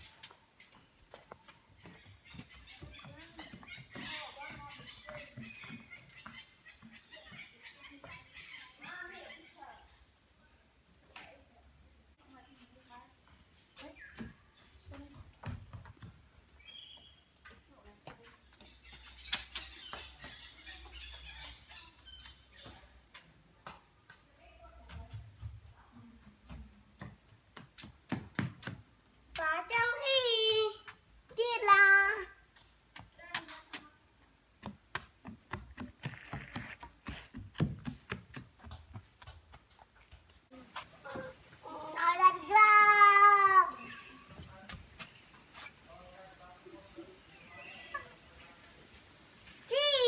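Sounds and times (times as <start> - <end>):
footsteps on wooden steps: 0.0 - 8.7, 12.6 - 45.8.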